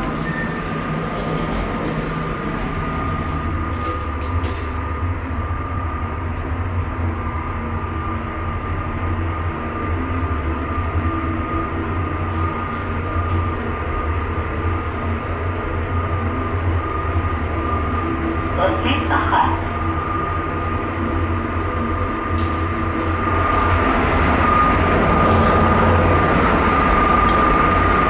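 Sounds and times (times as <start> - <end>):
elevator pump motor hum: 0.0 - 28.0.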